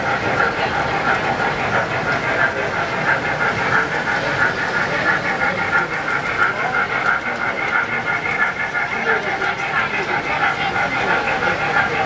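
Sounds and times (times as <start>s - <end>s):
model train wheels clattering: 0.0s - 12.0s.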